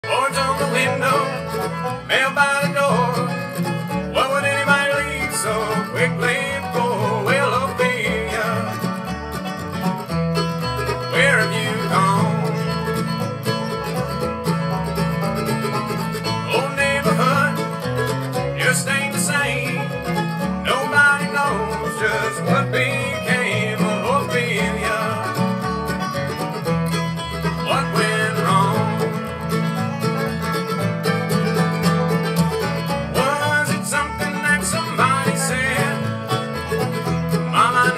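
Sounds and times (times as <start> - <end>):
bluegrass band playing: 0.0 - 37.9.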